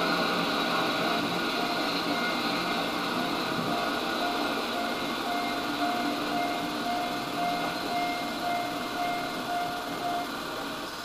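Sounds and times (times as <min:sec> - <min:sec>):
faint pulsing whine: 0:00.0 - 0:11.0
film projector whirring: 0:00.0 - 0:11.0.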